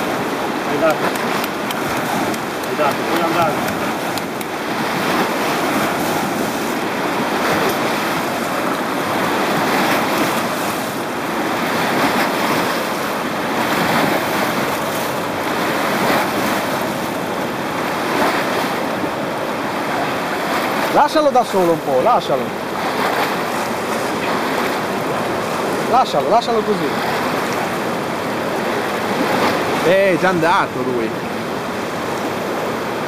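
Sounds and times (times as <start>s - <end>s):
river water splashing on rocks: 0.0s - 33.0s.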